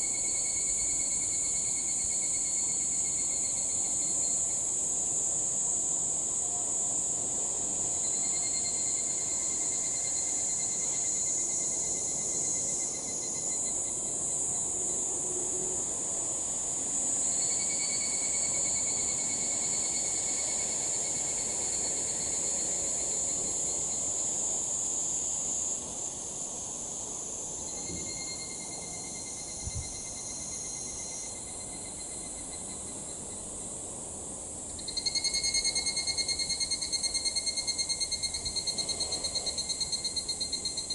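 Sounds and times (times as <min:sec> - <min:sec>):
evening cicadas calling: 0:00.0 - 0:40.9
high-pitched insect chorus: 0:00.0 - 0:40.9.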